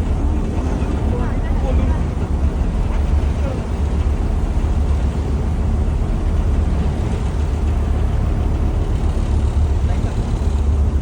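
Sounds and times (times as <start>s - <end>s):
ferry engine rumble: 0.0s - 11.0s.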